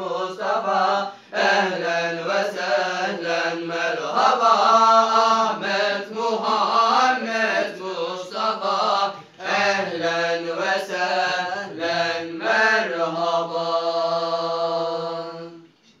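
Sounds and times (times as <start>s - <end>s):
men chanting a hymn unaccompanied: 0.0s - 15.7s.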